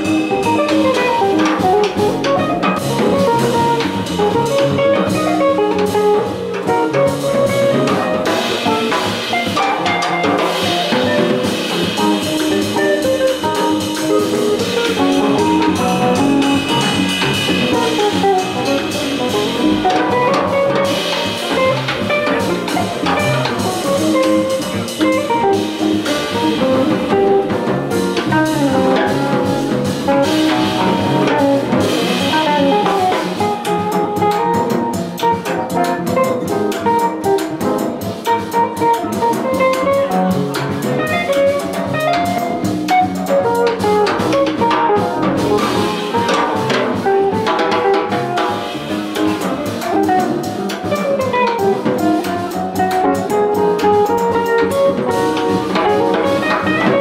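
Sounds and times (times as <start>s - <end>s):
alto saxophone: 0.0s - 37.6s, 38.2s - 57.0s
drum kit with ride cymbal: 0.0s - 57.0s
electric guitar: 0.0s - 57.0s
upright double bass: 0.0s - 57.0s.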